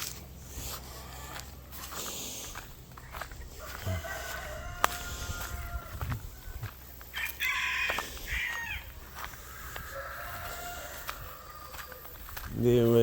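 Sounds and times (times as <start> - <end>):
poultry calling: 0.5 - 13.0.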